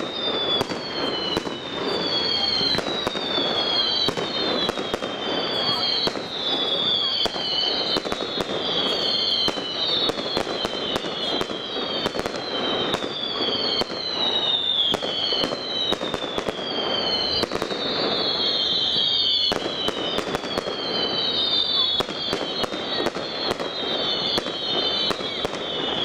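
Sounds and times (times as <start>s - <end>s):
fireworks bangs and crackling: 0.0s - 26.0s
high falling whistle: 0.0s - 26.0s.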